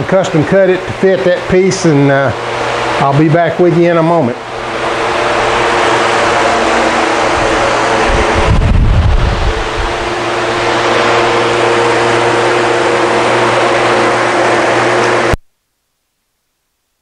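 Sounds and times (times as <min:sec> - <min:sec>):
machine rushing hiss and hum: 0:00.0 - 0:15.4.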